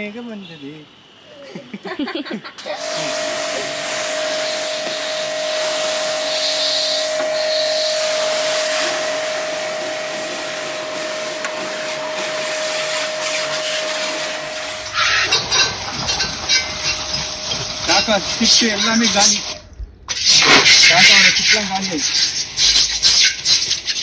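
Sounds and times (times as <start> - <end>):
pressure washer motor whine: 2.6 - 22.0
water jet hissing: 2.6 - 24.0.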